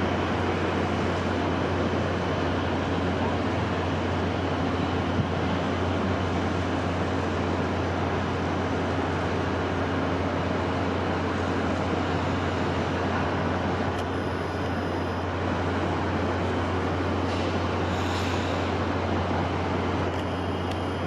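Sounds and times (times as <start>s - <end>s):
steady wind: 0.0s - 21.0s.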